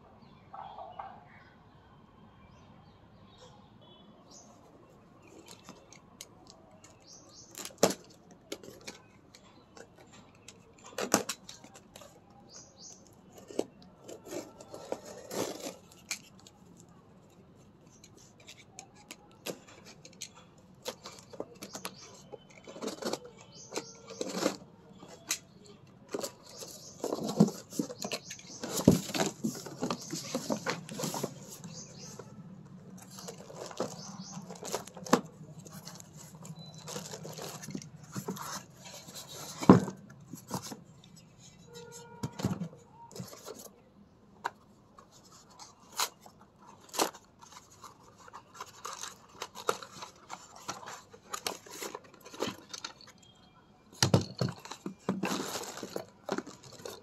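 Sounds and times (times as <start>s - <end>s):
cardboard and packing rustling: 5.2s - 16.9s, 20.8s - 43.8s, 45.0s - 53.3s, 54.0s - 57.0s.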